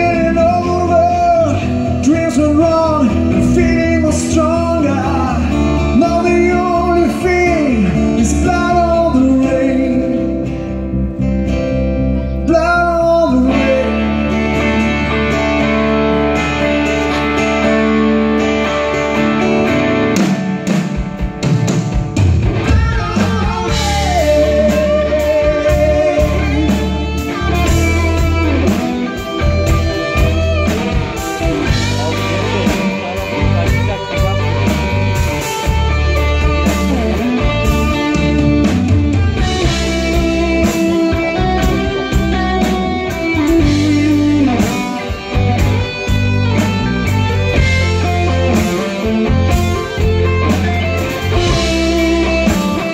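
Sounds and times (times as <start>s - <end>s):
live rock band instrumental: 0.0s - 52.9s
sliding lead melody: 0.0s - 52.9s.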